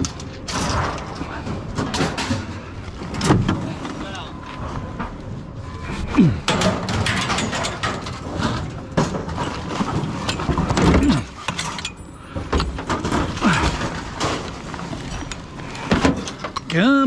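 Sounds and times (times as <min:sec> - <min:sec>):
scrap metal clattering: 0:00.0 - 0:17.0.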